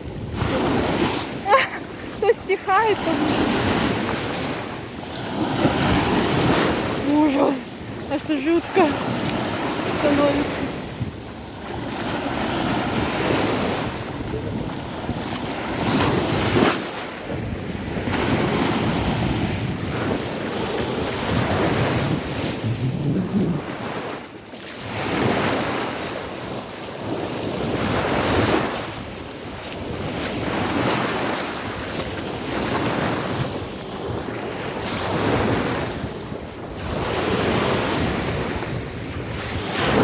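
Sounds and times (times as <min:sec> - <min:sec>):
surf breaking on shore: 0:00.0 - 0:40.0
wind buffeting microphone: 0:00.0 - 0:40.0.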